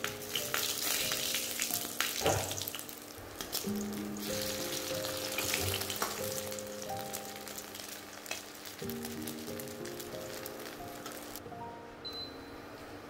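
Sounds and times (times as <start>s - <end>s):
pork sizzling in hot oil: 0.0s - 11.4s.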